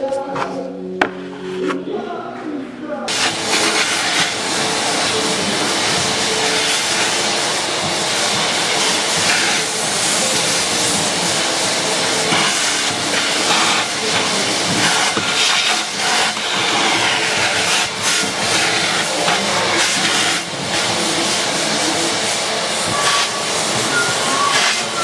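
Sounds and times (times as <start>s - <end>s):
vacuum cleaner running: 3.1s - 25.0s.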